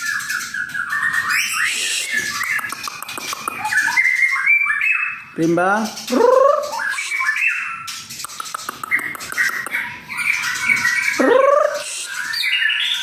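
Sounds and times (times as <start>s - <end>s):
bird singing whistled phrases: 0.0s - 3.0s, 3.6s - 5.4s, 6.0s - 7.9s, 8.9s - 13.0s.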